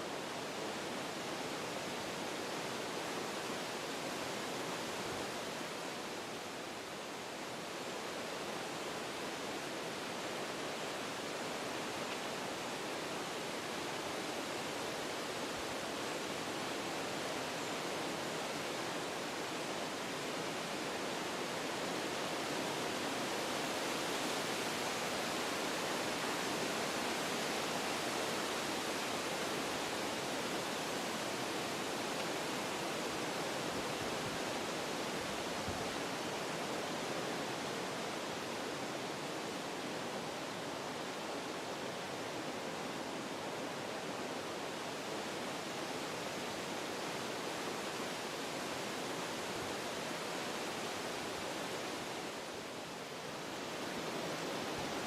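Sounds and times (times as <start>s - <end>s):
wind through forest trees: 0.0s - 55.0s.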